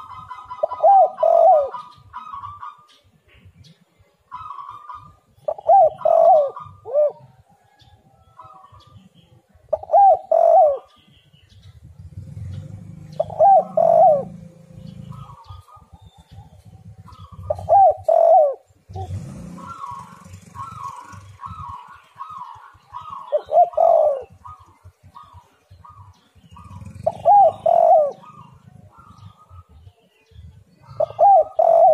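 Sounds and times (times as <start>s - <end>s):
dove cooing: 0.0s - 3.4s, 4.2s - 11.1s, 12.1s - 31.9s.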